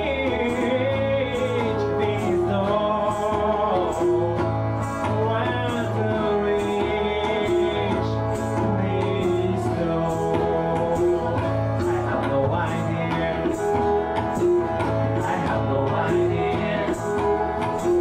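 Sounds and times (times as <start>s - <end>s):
acoustic guitar: 0.0s - 18.0s
person singing: 0.0s - 18.0s
tabla: 0.0s - 18.0s.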